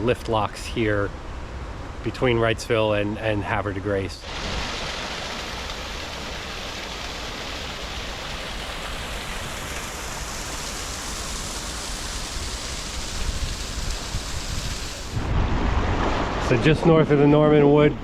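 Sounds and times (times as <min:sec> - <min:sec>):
rushing water: 0:03.4 - 0:17.9.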